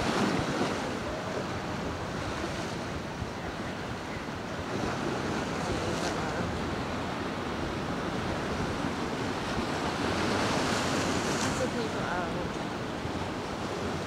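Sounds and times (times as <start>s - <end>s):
choppy sea washing against pier: 0.0s - 14.0s.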